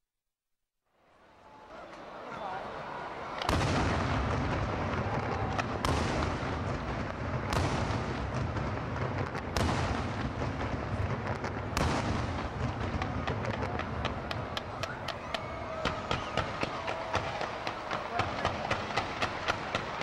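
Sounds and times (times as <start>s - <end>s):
firework booms echoing: 3.4s - 20.0s.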